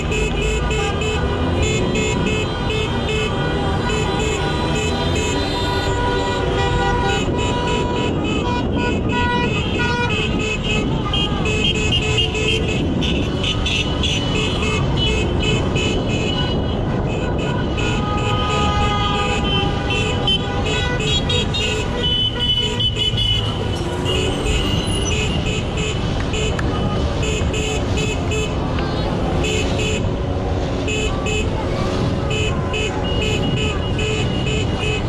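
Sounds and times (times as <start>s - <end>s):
car horns honking: 0.0s - 35.0s
traffic rumble: 0.0s - 35.0s.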